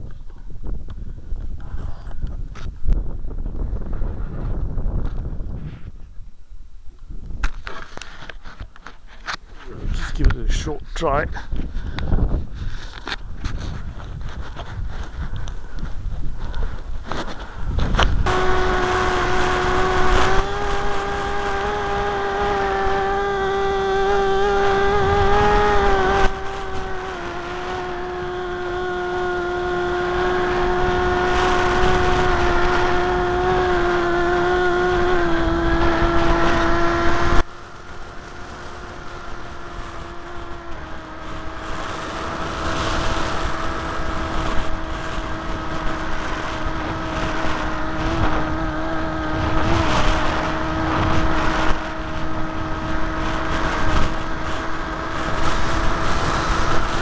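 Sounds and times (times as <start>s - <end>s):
wind buffeting microphone: 0.0s - 7.8s, 9.6s - 57.0s
propeller motor whine: 9.7s - 57.0s.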